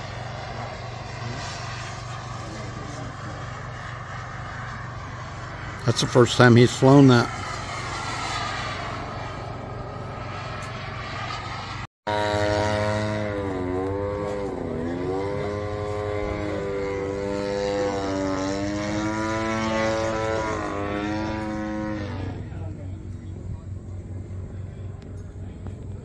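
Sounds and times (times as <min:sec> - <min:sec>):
model airplane propeller engine: 0:00.0 - 0:26.0.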